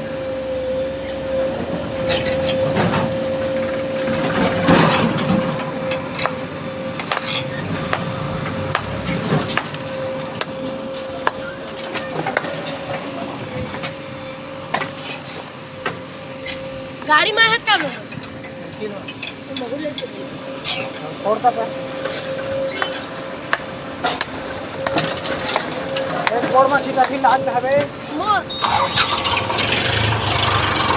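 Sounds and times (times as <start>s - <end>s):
backhoe loader humming: 0.0s - 30.9s.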